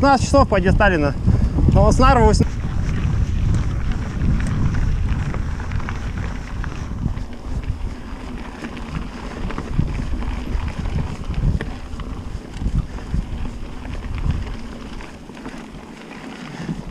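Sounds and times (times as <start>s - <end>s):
bike rattling: 0.0s - 16.9s
wind buffeting camera: 0.0s - 16.9s
tyres crunching over gravel: 0.8s - 16.9s.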